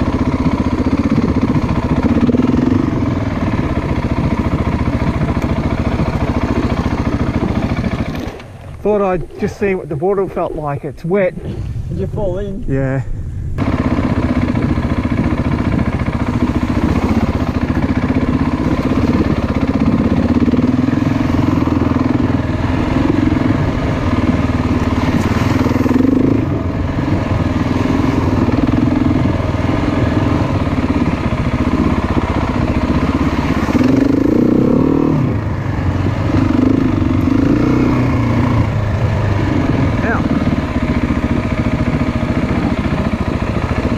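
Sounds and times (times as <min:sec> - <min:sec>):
motorcycle engine revving: 0:00.0 - 0:09.8, 0:13.6 - 0:43.9.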